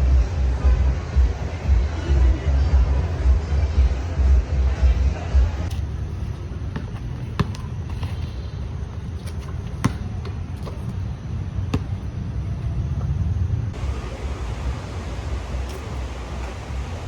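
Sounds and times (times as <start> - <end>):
low rumble of wind or traffic: 0.0 - 17.0.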